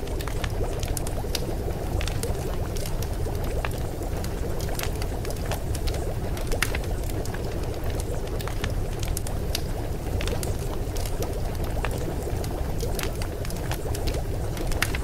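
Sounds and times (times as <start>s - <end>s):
small clicks and drips: 0.0s - 15.0s.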